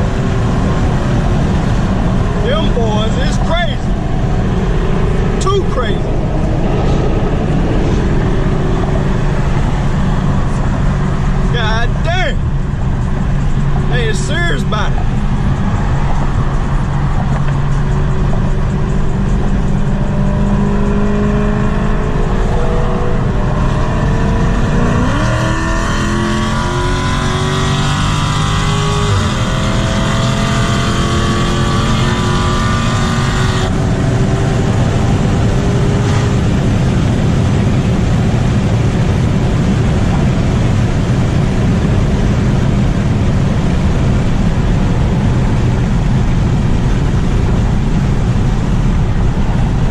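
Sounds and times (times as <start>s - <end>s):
car engines revving: 0.0s - 49.9s.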